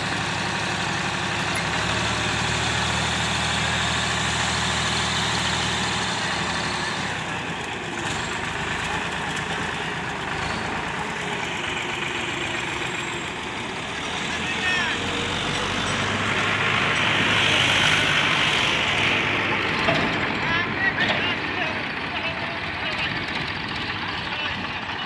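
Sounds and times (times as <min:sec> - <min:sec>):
tractor diesel engine running: 0:00.0 - 0:25.0
general rumble: 0:00.2 - 0:25.0.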